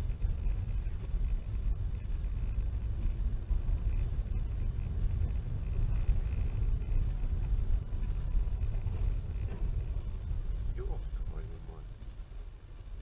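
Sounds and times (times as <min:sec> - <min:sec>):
car engine and tyre noise from inside: 0:00.0 - 0:13.0.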